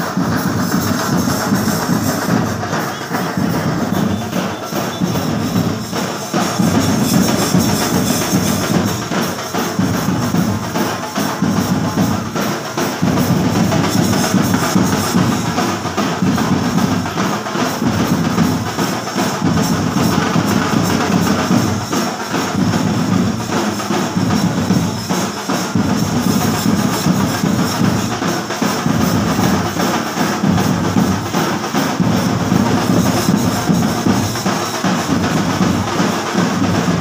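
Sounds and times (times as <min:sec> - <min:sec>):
drum-heavy music: 0:00.0 - 0:37.0.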